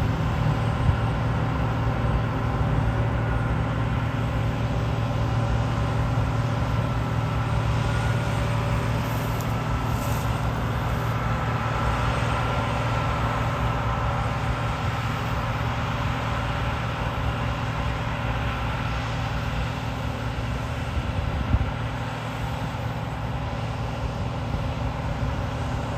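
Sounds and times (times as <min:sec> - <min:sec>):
combine harvester engine hum: 0:00.0 - 0:25.9.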